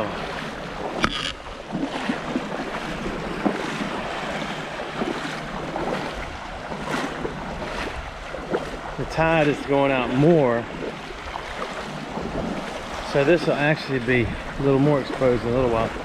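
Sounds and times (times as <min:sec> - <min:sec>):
seawater sloshing and splashing: 0:00.0 - 0:16.0
wind buffeting microphone: 0:00.0 - 0:16.0.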